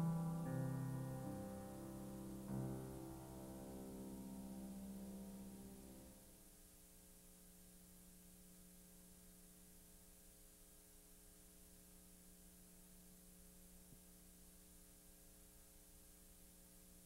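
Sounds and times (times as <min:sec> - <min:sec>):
faint electrical hum with hiss: 0:00.0 - 0:17.0.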